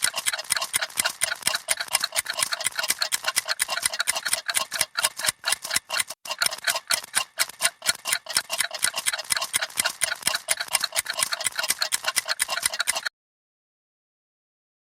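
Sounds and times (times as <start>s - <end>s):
clocks ticking rapidly: 0.0s - 13.1s.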